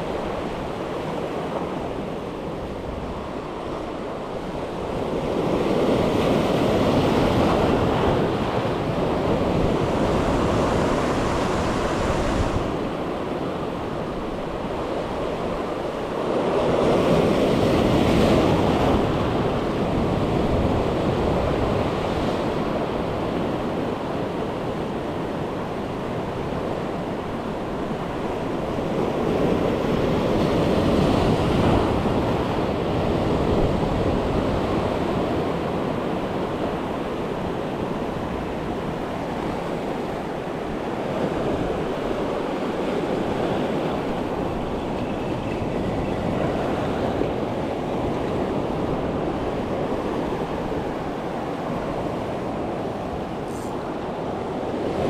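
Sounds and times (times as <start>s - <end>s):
ocean waves washing ashore: 0.0s - 55.0s
wind buffeting microphone: 0.0s - 55.0s.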